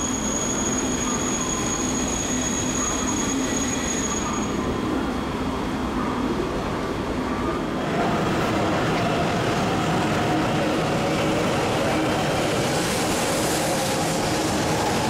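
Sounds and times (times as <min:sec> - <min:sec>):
train rumble and hiss: 0:00.0 - 0:15.0.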